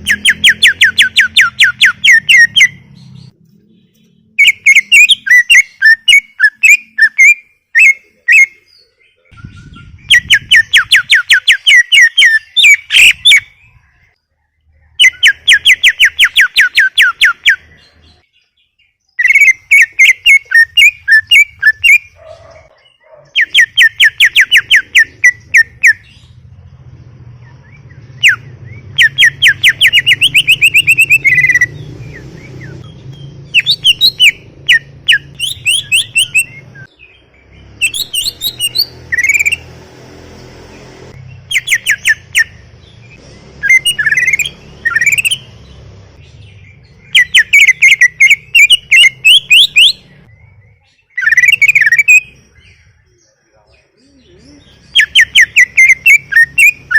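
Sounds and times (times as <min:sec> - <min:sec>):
bird singing sharp repeated notes: 0:00.0 - 0:56.9.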